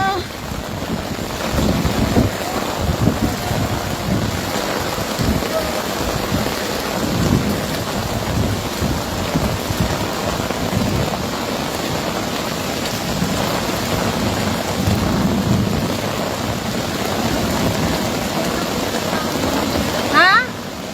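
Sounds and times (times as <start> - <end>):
heavy rain pouring: 0.0 - 20.9.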